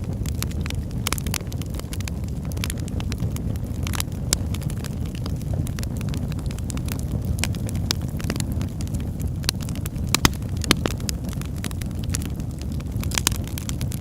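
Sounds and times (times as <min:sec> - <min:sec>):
log fire crackling and popping: 0:00.0 - 0:14.0.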